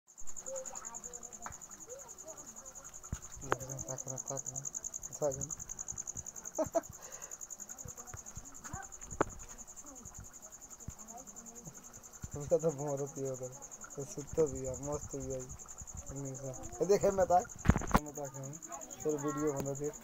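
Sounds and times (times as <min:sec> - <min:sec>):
cricket chirping: 0:00.1 - 0:20.0.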